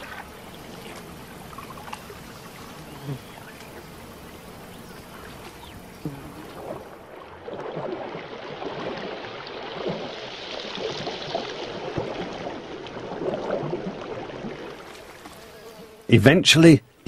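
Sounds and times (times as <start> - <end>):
swamp water sloshing and gurgling: 0.0 - 15.6.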